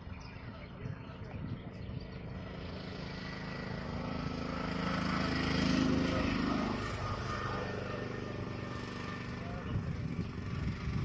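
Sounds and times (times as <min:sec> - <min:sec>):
vehicle engine passing: 0:02.1 - 0:11.0.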